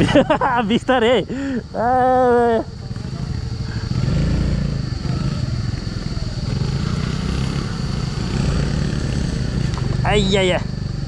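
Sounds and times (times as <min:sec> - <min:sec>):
scooter engine low rumble: 0:00.0 - 0:11.0.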